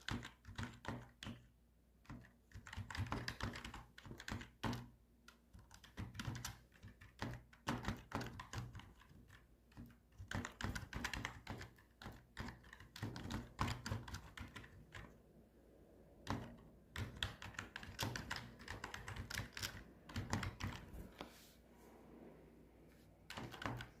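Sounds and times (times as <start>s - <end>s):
typing on a computer keyboard: 0.0s - 15.2s, 16.2s - 21.1s, 23.3s - 24.0s.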